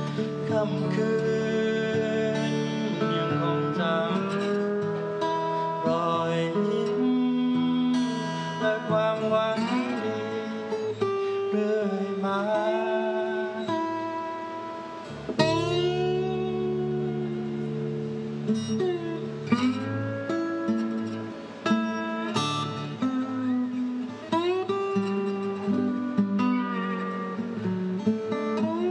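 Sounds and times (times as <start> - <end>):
acoustic guitar playing: 0.0 - 28.9.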